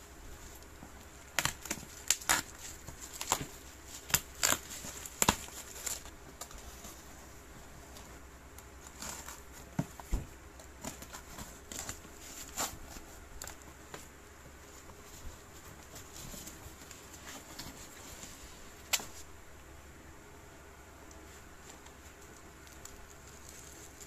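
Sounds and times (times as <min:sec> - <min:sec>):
bubble wrap crackles and rustles: 0:00.2 - 0:19.7, 0:21.0 - 0:24.0.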